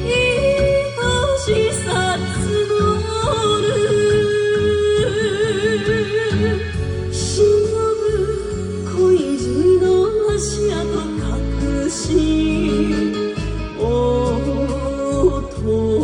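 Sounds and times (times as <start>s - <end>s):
band accompaniment: 0.0s - 16.0s
person singing with vibrato: 0.0s - 16.0s.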